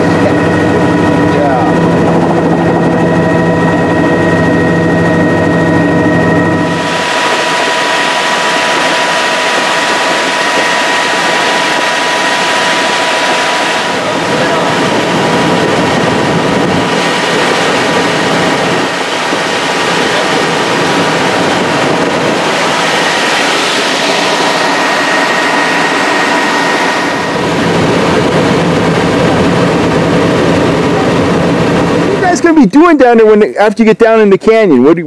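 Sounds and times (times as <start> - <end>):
helicopter engine and rotor noise: 0.0 - 33.6
high whine: 0.0 - 33.6.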